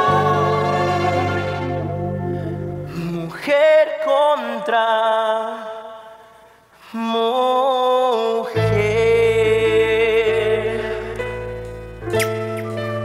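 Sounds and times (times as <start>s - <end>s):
solo person singing: 0.0s - 11.5s.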